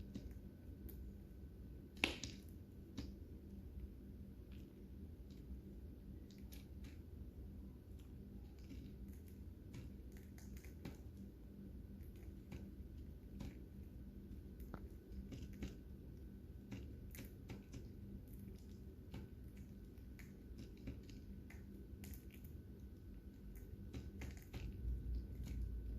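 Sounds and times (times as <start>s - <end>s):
low hum: 0.0s - 25.9s.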